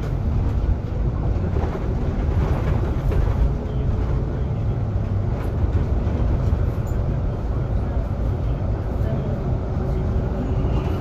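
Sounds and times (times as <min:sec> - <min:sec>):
bus driveline and road rumble: 0:00.0 - 0:11.0.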